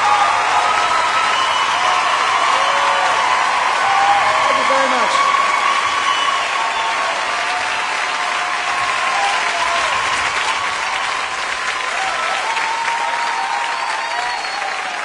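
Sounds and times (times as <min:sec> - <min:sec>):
audience applauding and cheering: 0:00.0 - 0:15.0.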